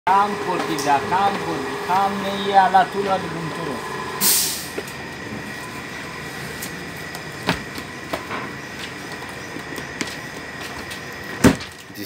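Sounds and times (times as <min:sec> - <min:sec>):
steady background hum: 0:00.1 - 0:12.0.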